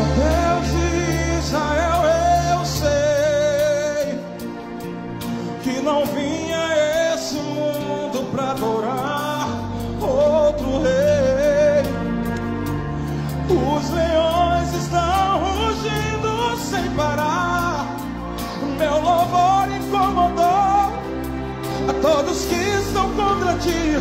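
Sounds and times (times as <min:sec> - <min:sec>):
man singing a hymn: 0:00.0 - 0:04.6, 0:05.5 - 0:24.0
instrumental backing: 0:00.0 - 0:24.0.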